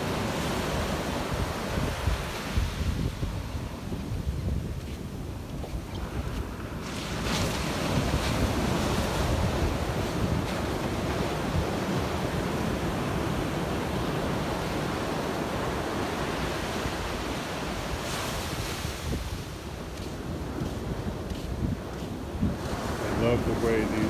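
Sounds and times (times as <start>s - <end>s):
waves breaking on sand: 0.0s - 24.0s.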